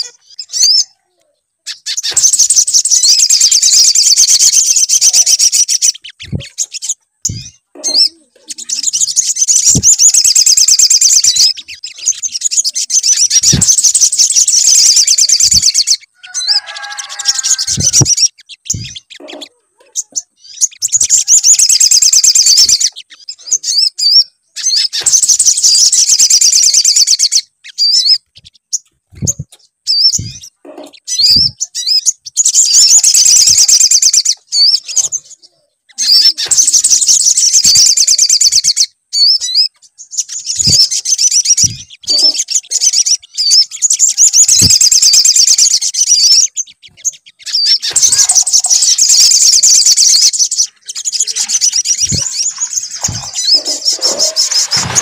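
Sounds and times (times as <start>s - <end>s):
high-pitched bird trilling: 0.0s - 55.0s.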